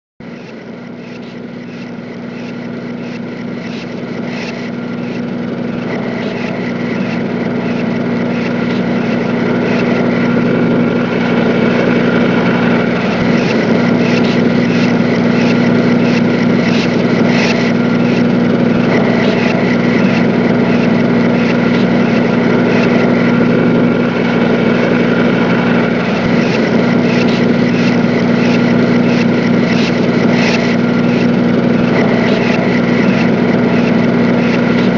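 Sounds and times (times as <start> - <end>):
machinery droning: 0.2 - 34.9.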